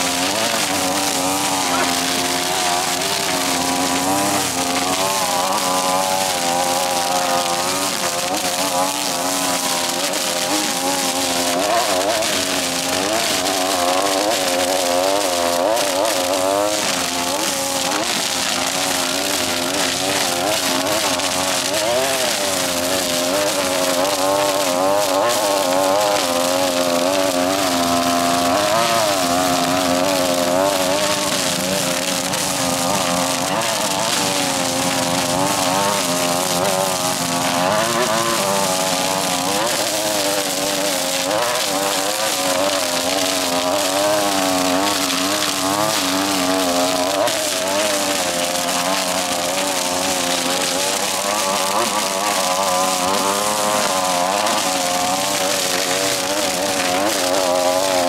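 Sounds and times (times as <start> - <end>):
string trimmer engine cutting grass: 0.0 - 58.0.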